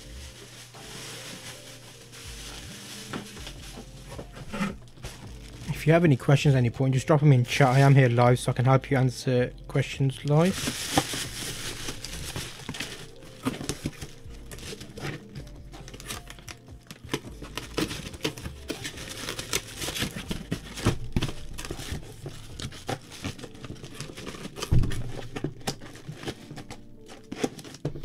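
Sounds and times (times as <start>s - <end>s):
cardboard packaging crinkling and rustling: 0.0s - 8.3s, 10.1s - 28.0s.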